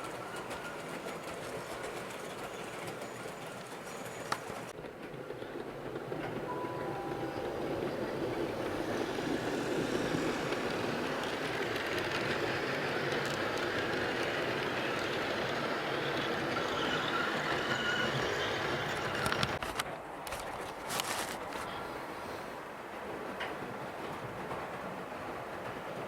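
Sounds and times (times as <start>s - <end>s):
model train whirring along track: 0.0s - 26.0s.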